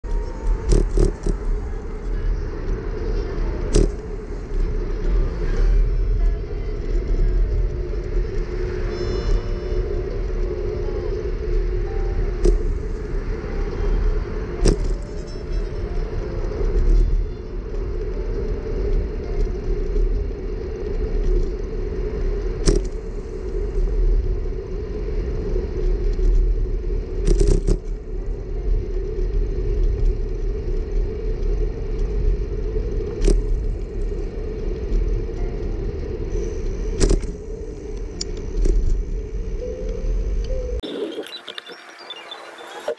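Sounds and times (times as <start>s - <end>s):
road rumble: 0.0s - 42.9s.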